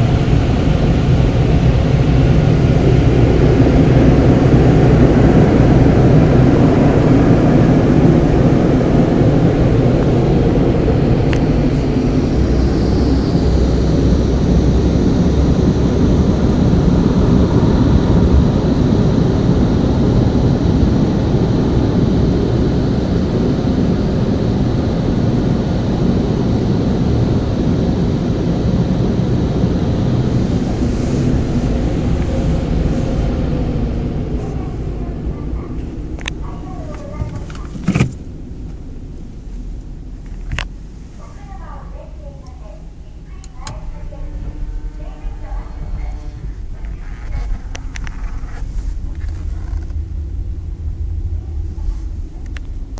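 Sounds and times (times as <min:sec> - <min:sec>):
car wash machine running: 0:00.0 - 0:52.9.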